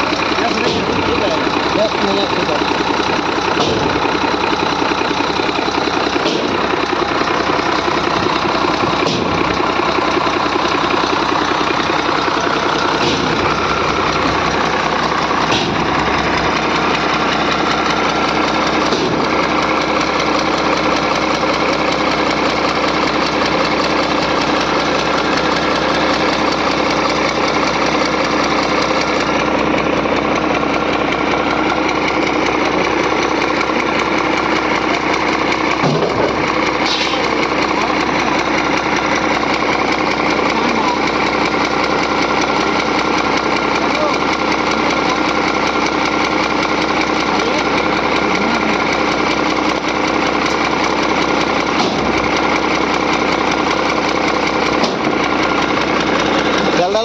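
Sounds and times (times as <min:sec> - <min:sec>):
engine knocks: 0:00.0 - 0:57.0
engine running: 0:00.0 - 0:57.0.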